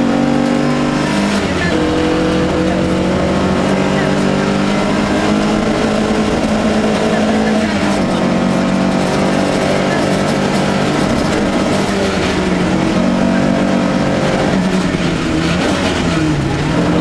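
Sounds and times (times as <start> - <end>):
car engine running hard: 0.0 - 17.0
road and tyre noise: 0.0 - 17.0.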